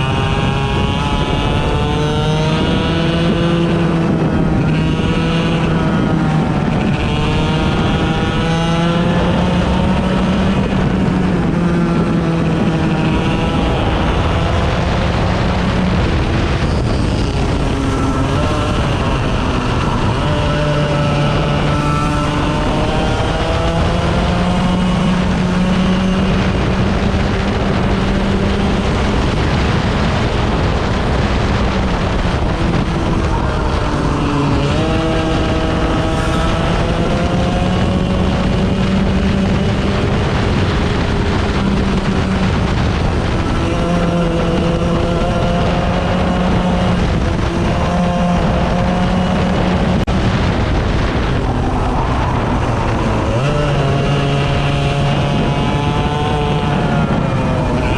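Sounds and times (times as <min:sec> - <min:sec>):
racing engine revving: 0:00.0 - 0:57.9.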